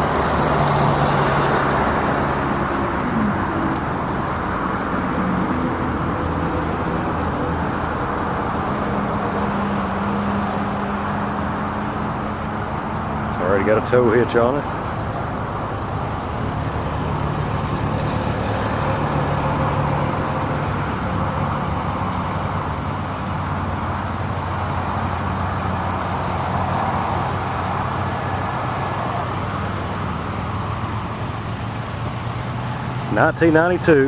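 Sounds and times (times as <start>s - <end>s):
pickup engine idling: 1.9s - 34.0s.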